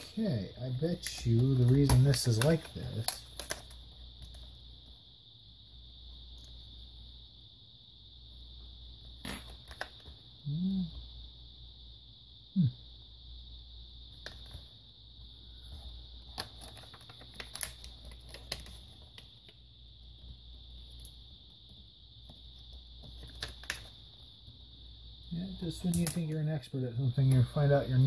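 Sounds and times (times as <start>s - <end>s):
high-pitched background hum: 0.0s - 28.0s.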